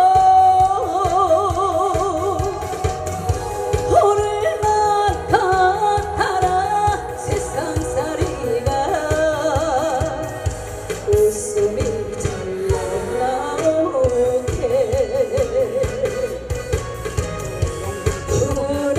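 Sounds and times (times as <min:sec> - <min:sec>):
woman singing into microphone: 0:00.0 - 0:16.8, 0:18.3 - 0:18.9
pop backing track with beat: 0:00.0 - 0:18.9.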